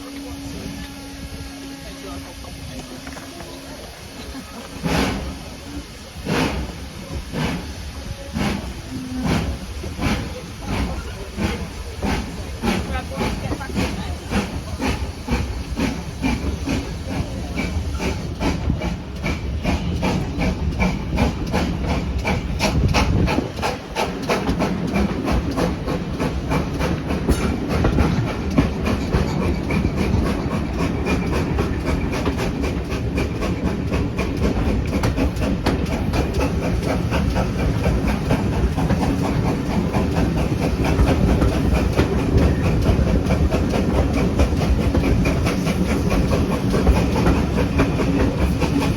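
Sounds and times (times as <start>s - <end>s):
steam train rumbling and hissing: 0.0s - 48.9s.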